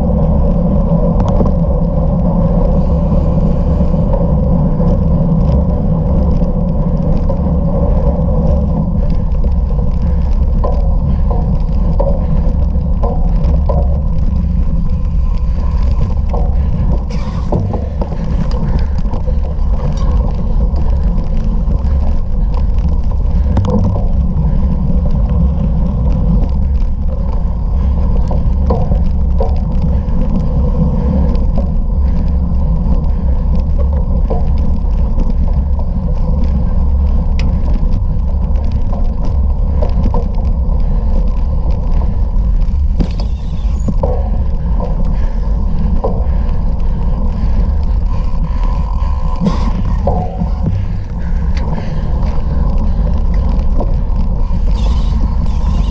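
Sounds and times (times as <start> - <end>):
bike rattling and knocking: 0.0 - 55.9
wind and tyres rumbling: 0.0 - 55.9.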